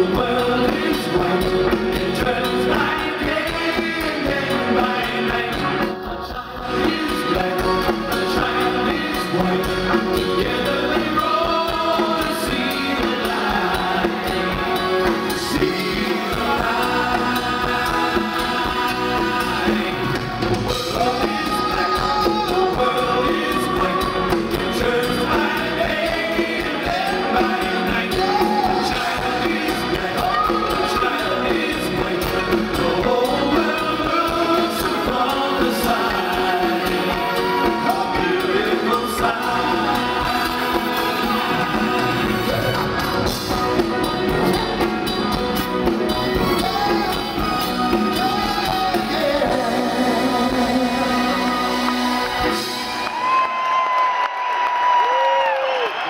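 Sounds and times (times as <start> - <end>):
people singing: 0.0 - 53.0
drums: 0.0 - 56.0
electric guitar: 0.0 - 56.0.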